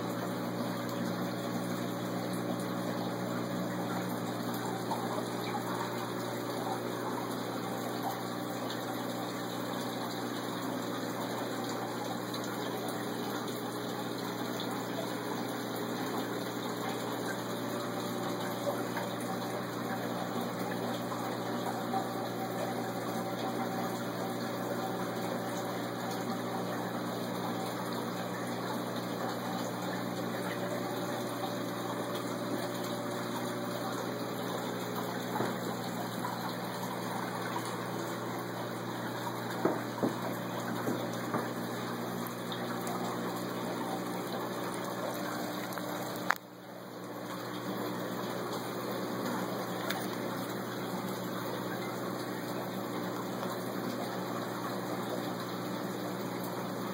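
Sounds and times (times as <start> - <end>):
low pump hum: 0.0 - 56.9
water rushing in aquarium: 0.0 - 56.9.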